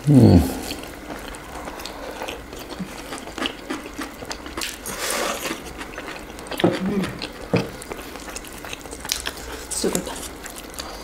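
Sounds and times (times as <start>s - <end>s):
chewing chicken wings: 0.6s - 11.0s.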